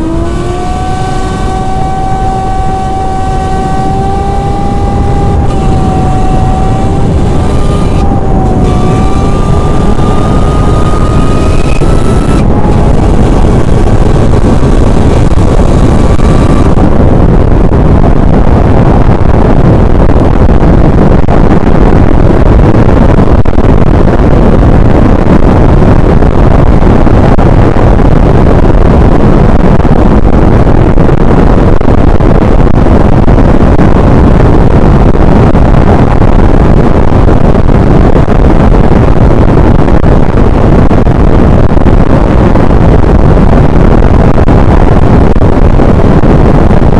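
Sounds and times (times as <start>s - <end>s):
violent wind blasting microphone: 0.0s - 46.9s.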